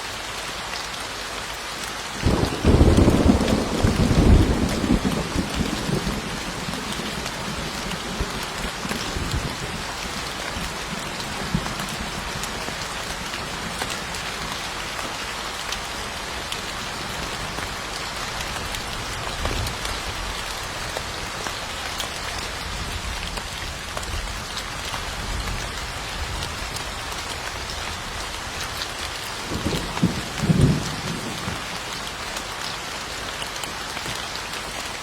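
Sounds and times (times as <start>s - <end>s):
rain falling on a surface: 0.0s - 35.0s.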